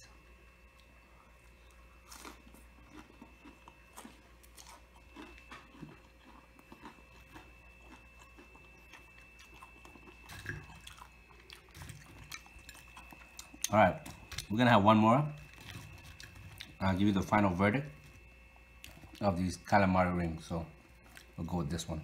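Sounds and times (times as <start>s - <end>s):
low hum: 0.0s - 22.0s
person chewing crunchy food: 0.6s - 19.5s, 20.4s - 21.9s.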